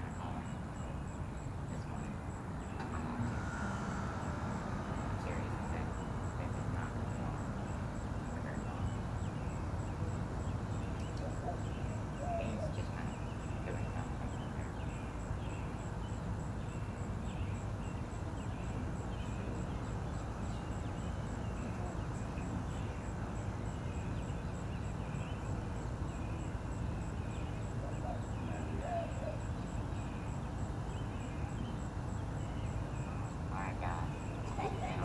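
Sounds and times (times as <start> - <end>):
low outdoor rumble: 0.0 - 35.0.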